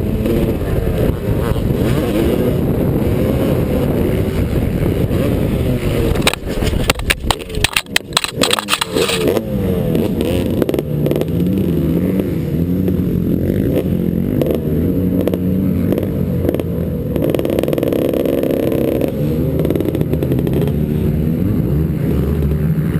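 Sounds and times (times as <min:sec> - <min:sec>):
motocross bike engine revving: 0:00.0 - 0:22.9.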